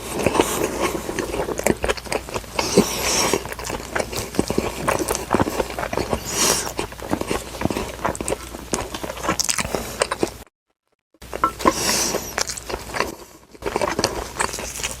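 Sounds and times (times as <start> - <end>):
chewing and biting food: 0.0 - 10.5, 11.3 - 15.0.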